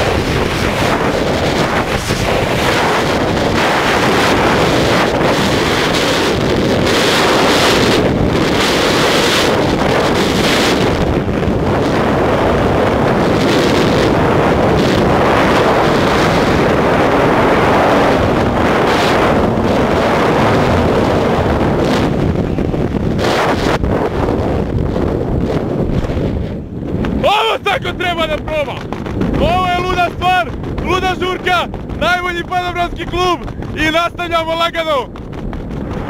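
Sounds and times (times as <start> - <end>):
freefall wind on microphone: 0.0 - 36.0.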